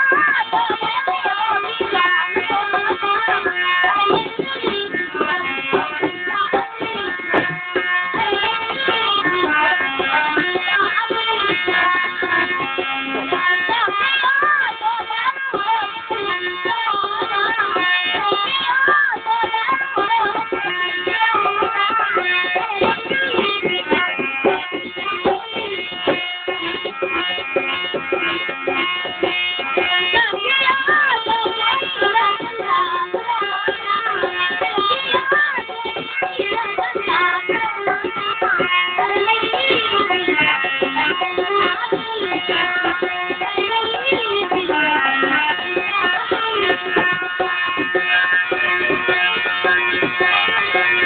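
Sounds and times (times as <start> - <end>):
young person singing: 0.0 - 27.2, 29.8 - 51.0
tabla drumming: 0.0 - 51.0.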